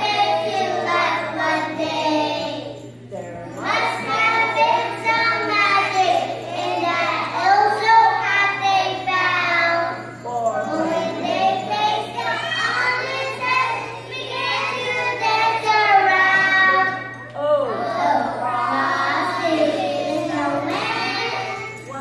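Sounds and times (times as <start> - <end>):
children singing together: 0.0 - 3.0, 3.6 - 21.9.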